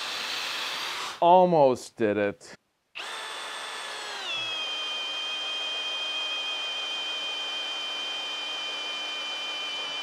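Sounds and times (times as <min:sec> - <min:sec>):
cordless drill boring into log: 0:00.0 - 0:01.2, 0:03.0 - 0:10.0.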